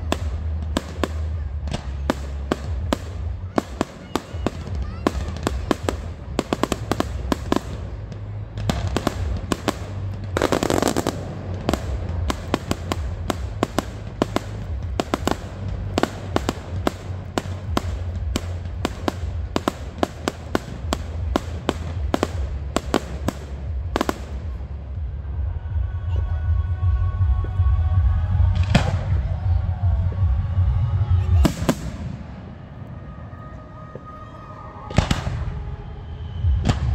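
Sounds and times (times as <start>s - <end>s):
fireworks bangs and crackles: 0.0s - 25.5s, 27.2s - 34.2s, 34.8s - 36.9s.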